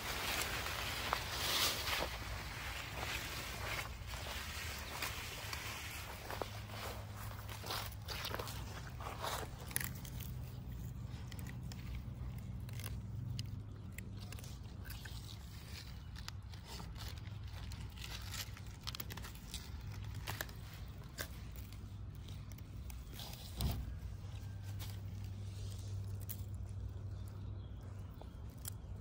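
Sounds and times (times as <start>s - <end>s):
dog chewing leaves: 0.0s - 29.0s.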